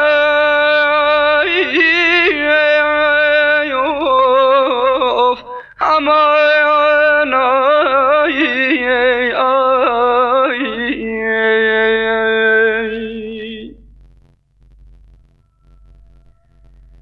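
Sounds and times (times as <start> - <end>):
person singing ornamented melody: 0.0 - 13.8.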